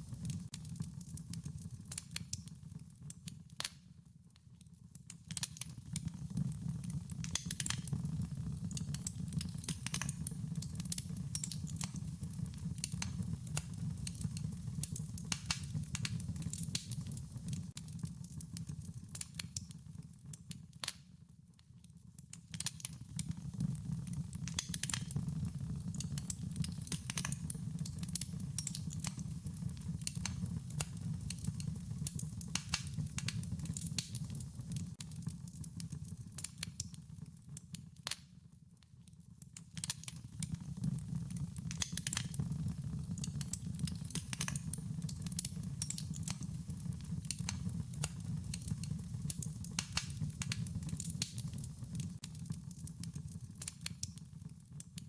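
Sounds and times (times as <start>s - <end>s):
wood fire crackling and popping: 0.0s - 55.0s
low rumble of burning: 5.0s - 20.9s, 22.2s - 37.6s, 39.8s - 54.8s.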